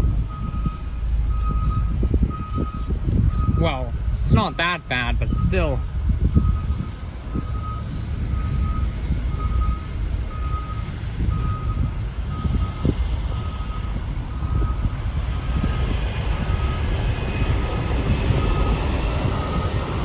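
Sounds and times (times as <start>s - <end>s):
reversing alarm beeping: 0.0s - 20.0s
road traffic rumble: 0.0s - 20.0s.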